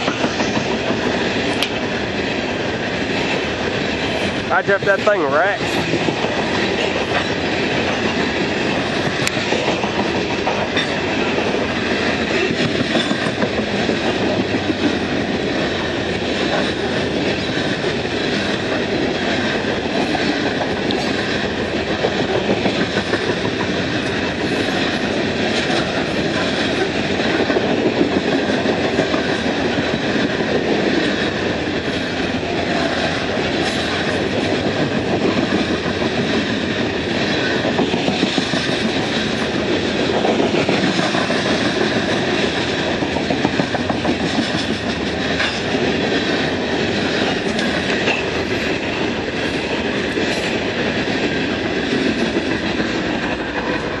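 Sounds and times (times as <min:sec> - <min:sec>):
train wheels rumbling and clacking: 0:00.0 - 0:54.0.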